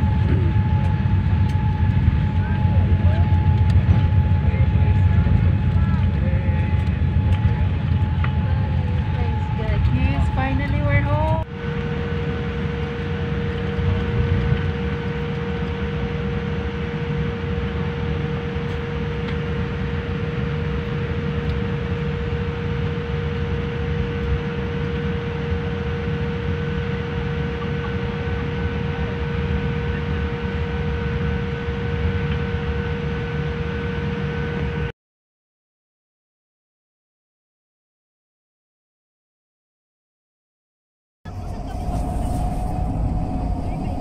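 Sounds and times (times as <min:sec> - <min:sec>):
airliner cabin rumble: 0:00.0 - 0:34.9, 0:41.3 - 0:44.0
jet engine whine: 0:00.0 - 0:34.9, 0:41.3 - 0:44.0.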